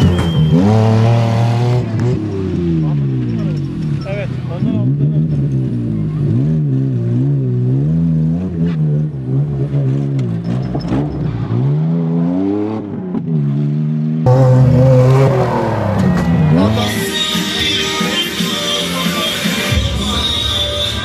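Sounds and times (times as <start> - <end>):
truck engines revving in mud: 0.0 - 18.0.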